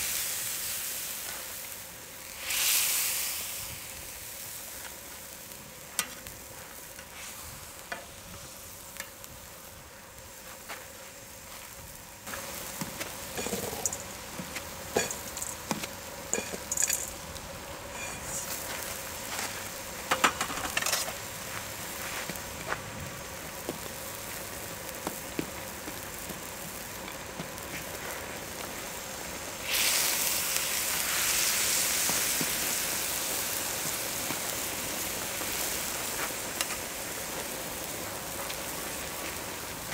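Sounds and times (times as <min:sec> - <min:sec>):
broth boiling and sizzling: 0:00.0 - 0:39.9.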